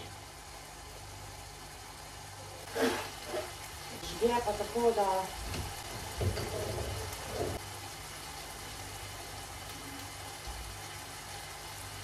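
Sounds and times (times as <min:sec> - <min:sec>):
pan of food sizzling: 0:00.0 - 0:12.0.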